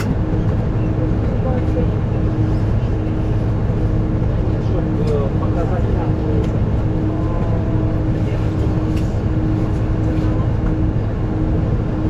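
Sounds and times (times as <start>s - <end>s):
droning hum: 0.0s - 12.0s
vehicle cabin rumble: 0.0s - 12.0s.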